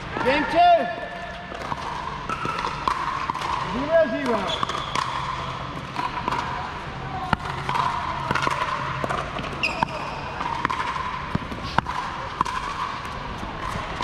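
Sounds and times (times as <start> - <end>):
background hum: 0.0 - 14.0
paddles hitting pickleball: 0.1 - 14.0.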